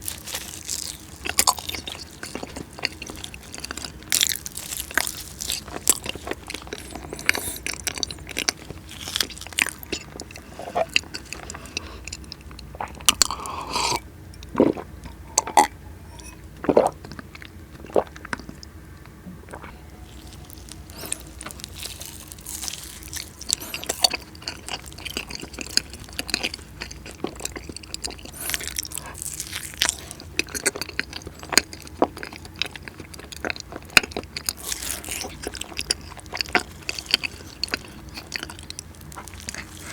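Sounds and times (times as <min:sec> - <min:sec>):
soft crunchy chewing: 0:00.0 - 0:39.9.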